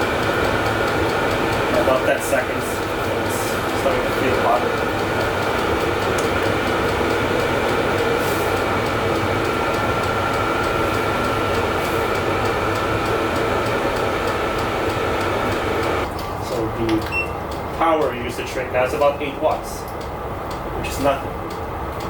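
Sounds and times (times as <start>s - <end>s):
diesel heater blower whirring: 0.0s - 22.0s.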